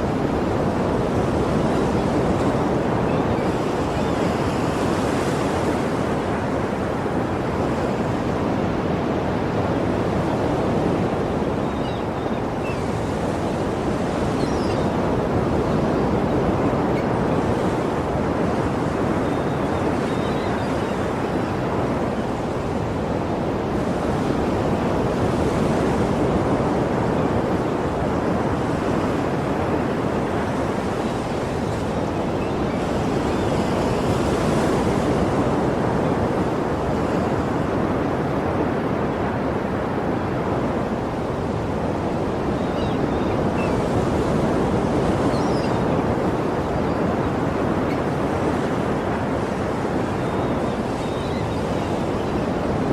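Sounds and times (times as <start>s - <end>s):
sea waves washing onto shore: 0.0s - 52.9s.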